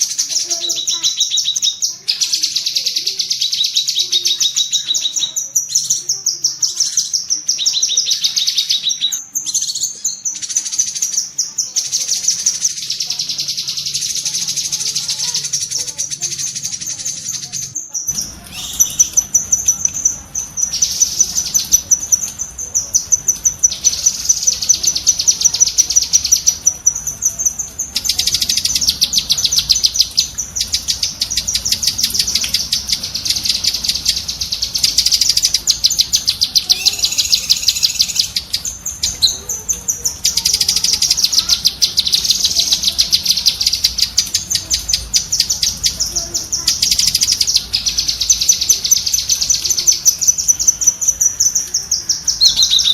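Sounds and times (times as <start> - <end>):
bird rapid high-pitched chattering: 0.0 - 52.9.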